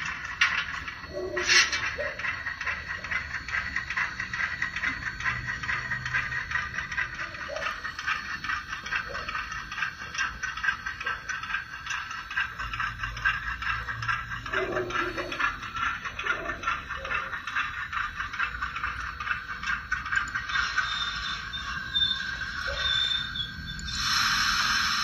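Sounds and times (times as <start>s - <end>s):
model train clicking rattle: 0.0s - 25.0s.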